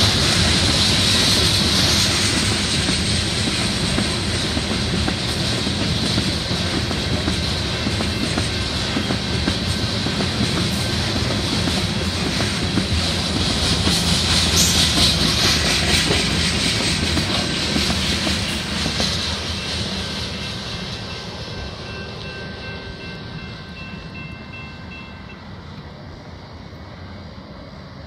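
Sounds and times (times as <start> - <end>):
steel wheels clattering on rails: 0.0 - 25.4.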